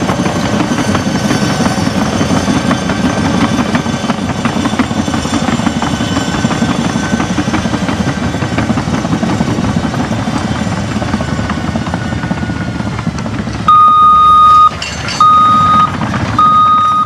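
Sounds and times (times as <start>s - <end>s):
bulldozer diesel engine: 0.0s - 17.0s.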